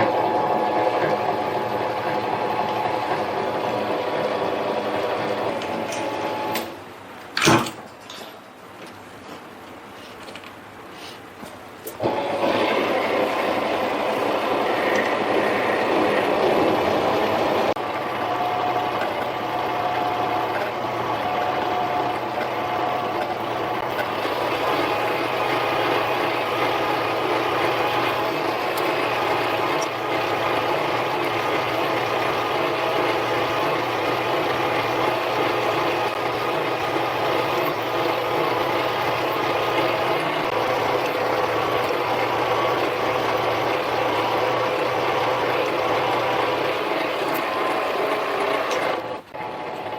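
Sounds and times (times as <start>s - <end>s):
lathe motor running: 0.0s - 6.7s, 12.0s - 49.9s.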